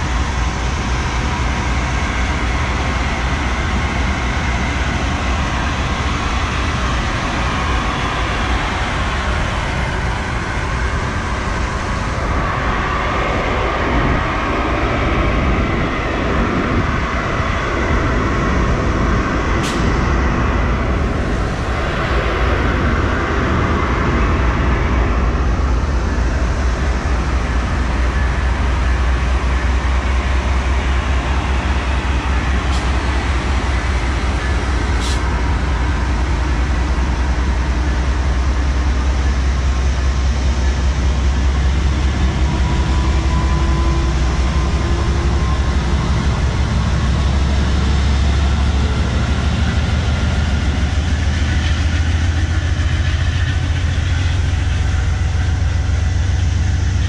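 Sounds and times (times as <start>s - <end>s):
diesel locomotive rumble: 0.0s - 57.0s.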